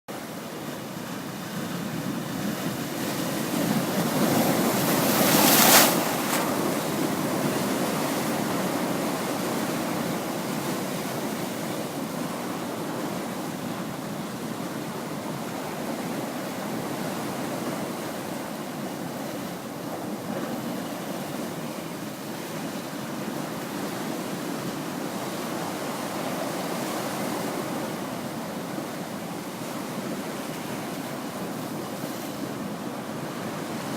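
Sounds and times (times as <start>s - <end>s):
rushing wash of surf: 0.1s - 33.9s
waves crashing against cliffs: 0.5s - 33.9s.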